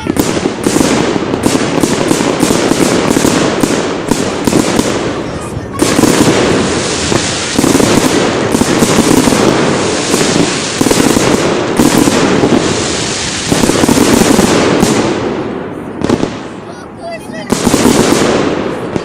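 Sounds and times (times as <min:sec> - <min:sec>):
fireworks bangs and crackle: 0:00.0 - 0:19.0.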